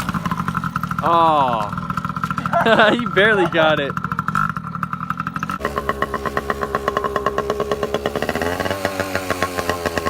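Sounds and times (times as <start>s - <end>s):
small engine pulsing: 0.0s - 10.0s.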